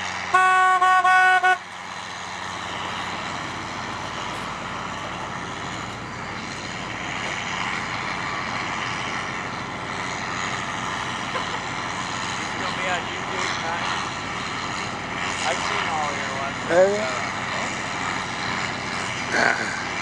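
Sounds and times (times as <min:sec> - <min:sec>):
tractor diesel engine drone: 0:00.0 - 0:20.0.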